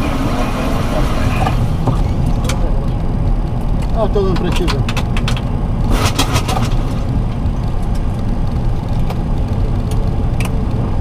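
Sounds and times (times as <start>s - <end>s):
cockpit engine rumble: 0.0s - 11.0s.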